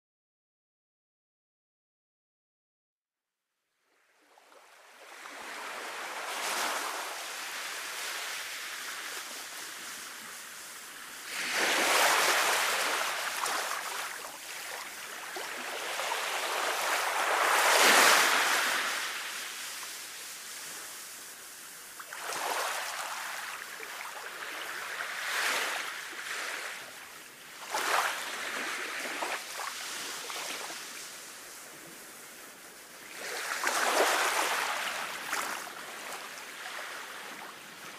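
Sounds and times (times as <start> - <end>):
sea waves breaking on beach: 4.5 - 37.9.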